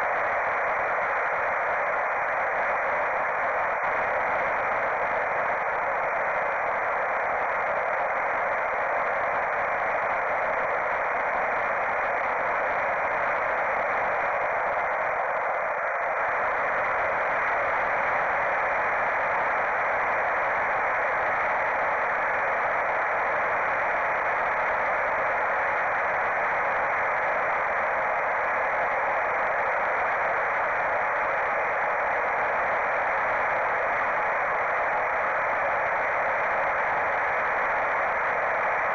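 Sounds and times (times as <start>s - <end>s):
steady hiss and rush: 0.0s - 38.9s.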